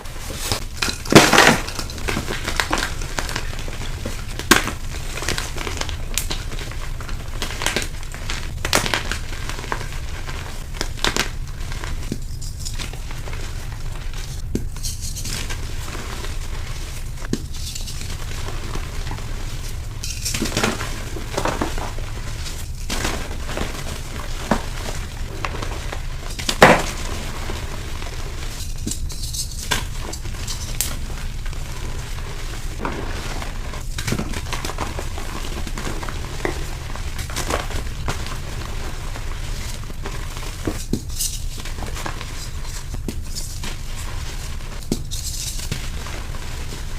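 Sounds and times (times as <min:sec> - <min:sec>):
steady low hum: 0:00.0 - 0:46.9
chalk blocks crunching by hand: 0:00.1 - 0:46.9.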